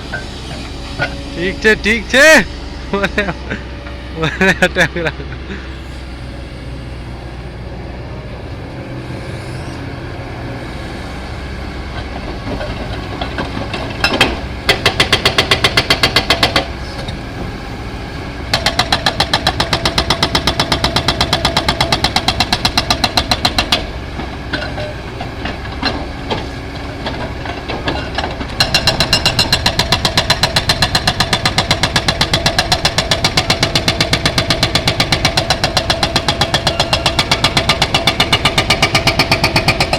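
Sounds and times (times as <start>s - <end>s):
excavator engine hum: 0.0s - 39.9s.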